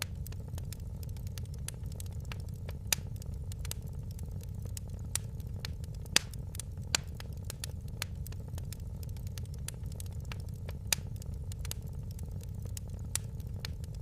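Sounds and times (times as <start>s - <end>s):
fire pops and snaps: 0.0s - 14.0s
low rumble of fire: 0.0s - 14.0s.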